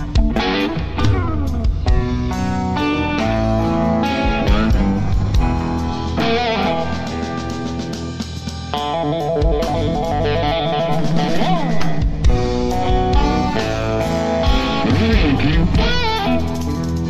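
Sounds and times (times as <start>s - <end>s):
bass guitar: 0.0s - 17.0s
drums: 0.0s - 17.0s
electric guitar lead: 0.0s - 17.0s.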